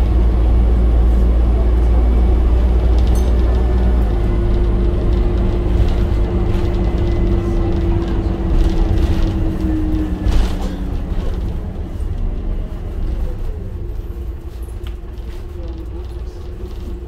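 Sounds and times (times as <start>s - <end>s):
bus engine rumble and whine: 0.0s - 17.0s.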